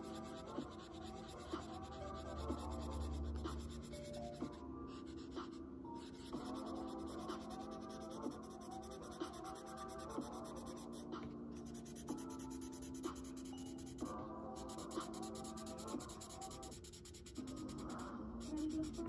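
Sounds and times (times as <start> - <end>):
pencil scratching on paper: 0.0 - 19.0
soft background music chords: 0.0 - 19.0.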